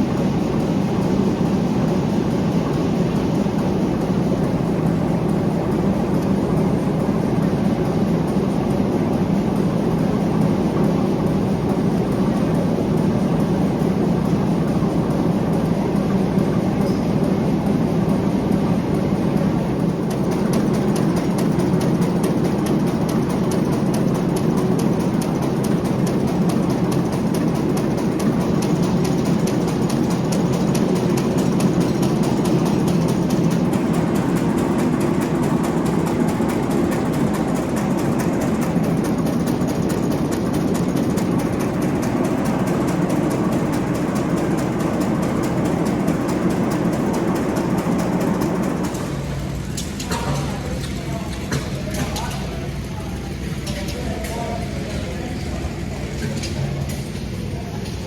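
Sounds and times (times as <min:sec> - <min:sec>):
large diesel engine running: 0:00.0 - 0:58.0.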